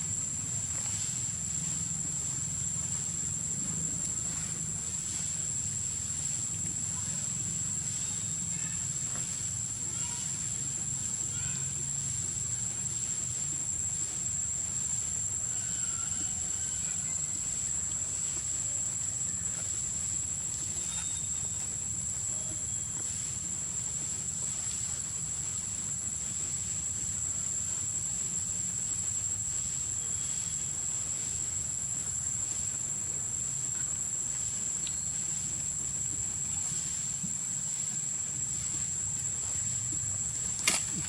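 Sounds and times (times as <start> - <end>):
high-pitched insect drone: 0.0 - 19.8, 20.5 - 41.0.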